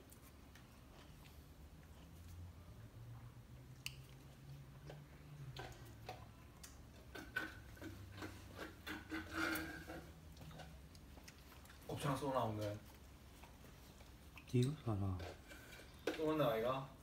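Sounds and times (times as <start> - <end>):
puppy licking and nibbling: 0.0 - 16.6.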